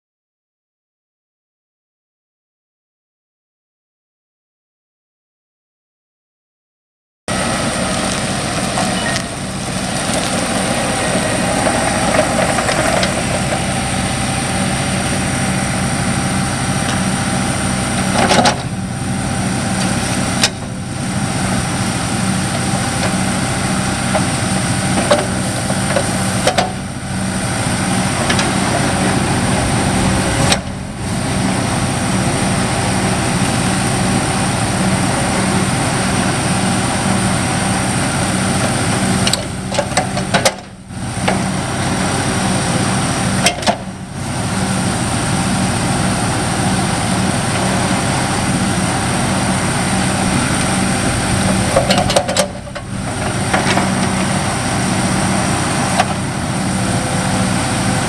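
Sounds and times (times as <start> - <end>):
diesel engine running: 7.3 - 58.0.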